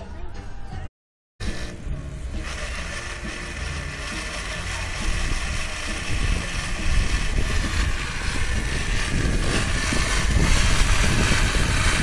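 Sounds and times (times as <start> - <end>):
blender running: 1.4 - 12.0.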